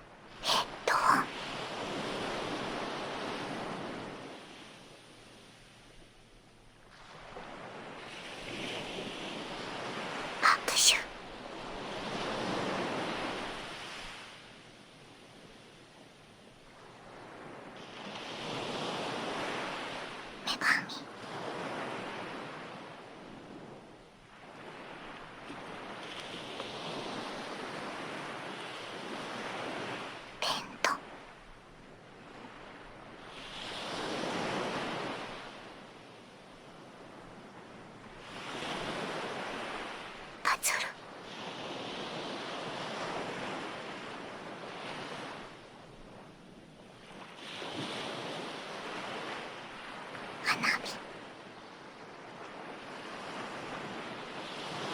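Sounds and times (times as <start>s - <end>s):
ocean waves on shore: 0.0s - 54.9s.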